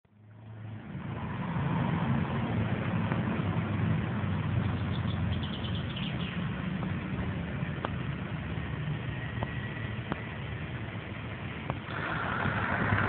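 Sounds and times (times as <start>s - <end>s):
diesel engine low rumble: 0.1s - 13.0s.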